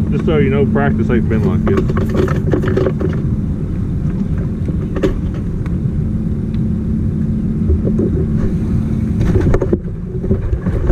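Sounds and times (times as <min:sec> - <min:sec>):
outboard motor running: 0:00.0 - 0:10.9.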